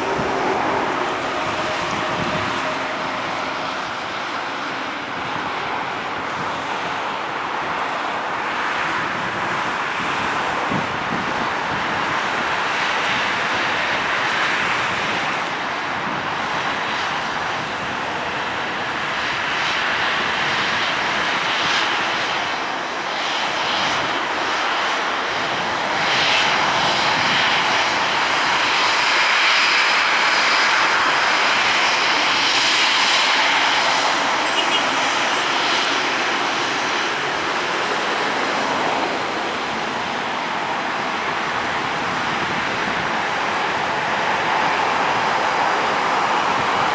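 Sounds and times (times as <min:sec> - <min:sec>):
jet engines rushing with whine: 0:00.0 - 0:46.9.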